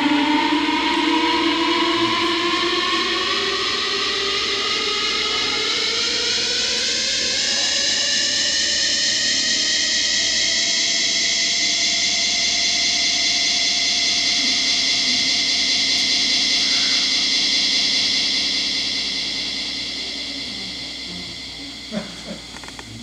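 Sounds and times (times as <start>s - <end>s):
electronic hissing drone: 0.0s - 23.0s.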